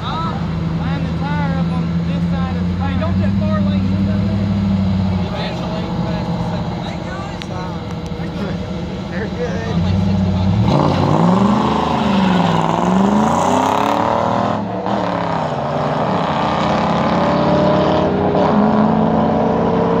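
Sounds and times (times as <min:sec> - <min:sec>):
car engines revving through gears: 0:00.0 - 0:20.0.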